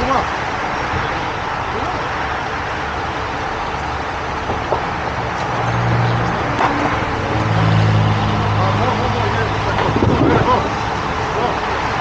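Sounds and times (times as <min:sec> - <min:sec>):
diesel engine running: 0:00.0 - 0:12.0
low drone: 0:00.0 - 0:12.0.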